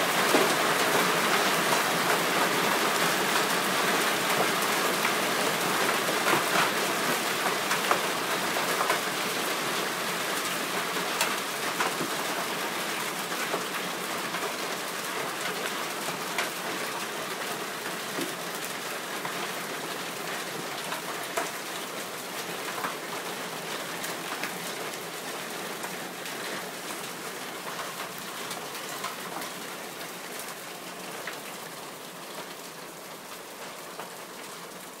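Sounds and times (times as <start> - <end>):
hail falling on ground: 0.0 - 35.0.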